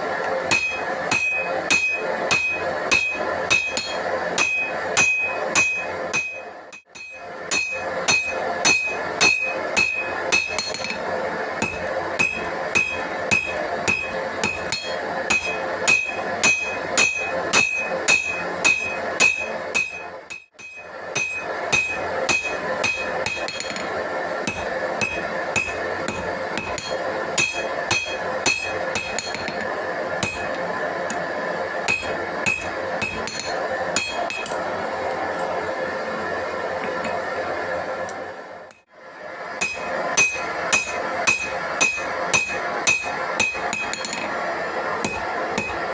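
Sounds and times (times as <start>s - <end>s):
hammer ringing on anvil: 0.5s - 23.9s, 24.5s - 31.2s, 31.9s - 34.6s, 39.6s - 44.4s, 45.0s - 45.9s.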